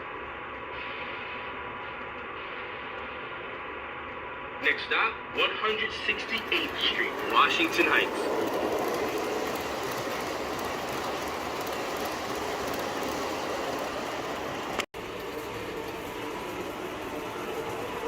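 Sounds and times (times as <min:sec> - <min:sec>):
subway train rolling: 0:00.0 - 0:18.0.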